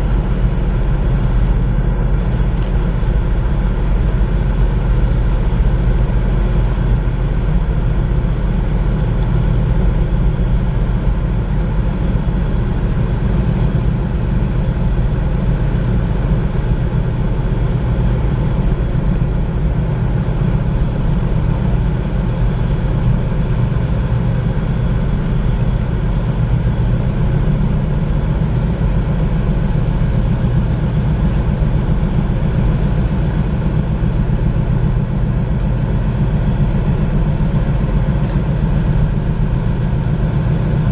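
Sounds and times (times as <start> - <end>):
ship diesel engine rumbling: 0.0 - 40.9.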